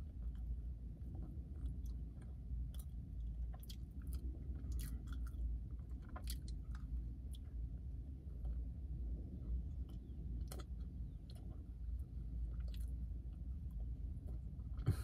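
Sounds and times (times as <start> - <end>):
low steady hum: 0.0 - 15.0
person chewing pastry: 0.0 - 15.0.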